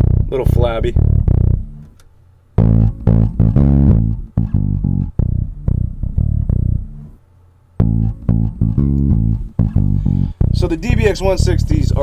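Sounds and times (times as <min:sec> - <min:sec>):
plucked bass notes: 0:00.0 - 0:07.2, 0:07.8 - 0:12.0.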